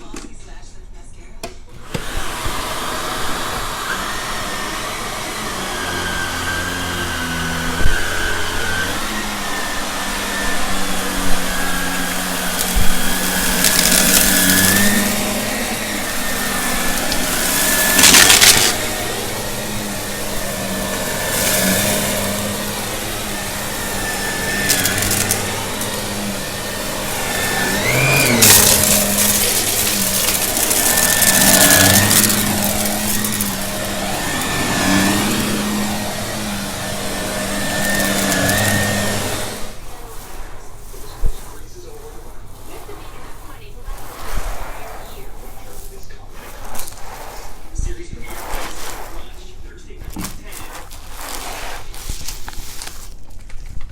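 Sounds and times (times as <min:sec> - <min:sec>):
vacuum cleaner motor whine: 0:01.7 - 0:53.6
vacuum rushing surges: 0:07.6 - 0:52.3.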